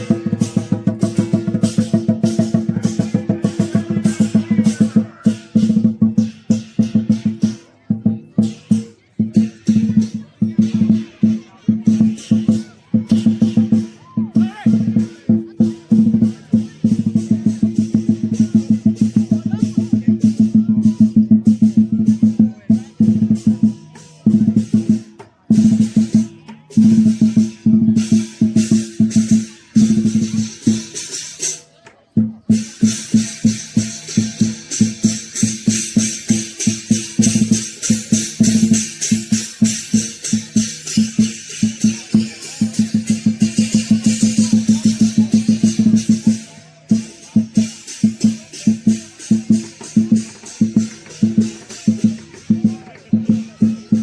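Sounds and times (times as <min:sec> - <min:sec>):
clashing cymbals: 0:00.0 - 0:07.8, 0:08.4 - 0:14.0, 0:14.7 - 0:31.6, 0:32.5 - 0:53.9
drum playing rapid strokes: 0:00.0 - 0:54.0.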